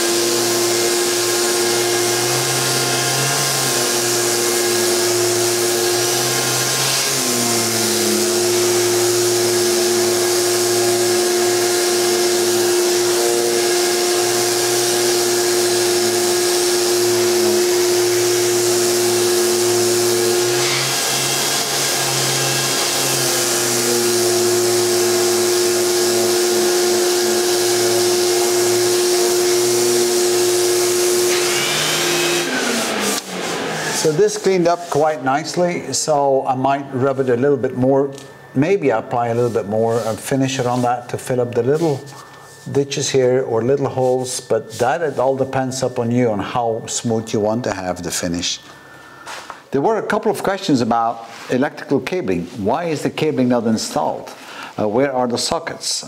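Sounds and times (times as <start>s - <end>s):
dust extractor drawing air: 0.0s - 55.2s
orbital sander on plaster wall: 0.0s - 55.7s.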